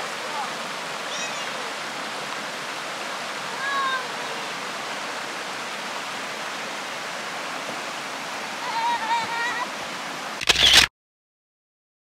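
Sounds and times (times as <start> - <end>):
stream rushing over rocks: 0.0 - 10.8.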